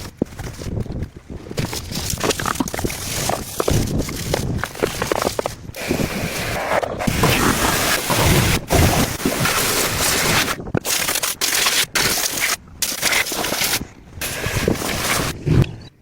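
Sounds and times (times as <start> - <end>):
harsh scraping and rubbing: 1.5 - 15.9.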